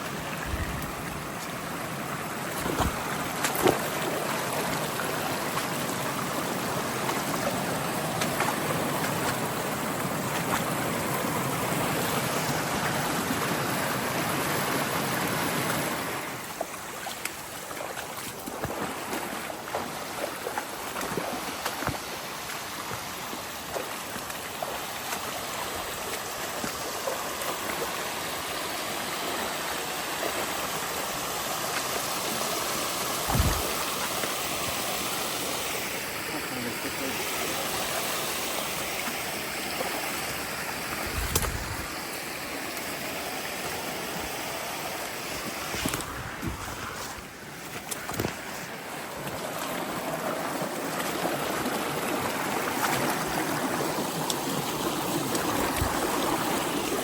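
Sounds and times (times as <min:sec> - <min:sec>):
creek water rushing: 0:00.0 - 0:57.0.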